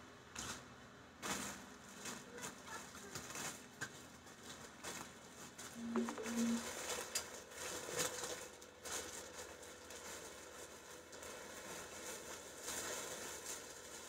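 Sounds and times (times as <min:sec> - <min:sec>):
plastic packaging rustling: 0:01.2 - 0:14.0.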